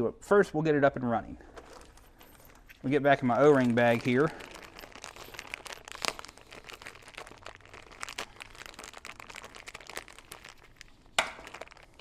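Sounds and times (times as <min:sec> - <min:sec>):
plastic bag crinkling: 0:01.4 - 0:12.0.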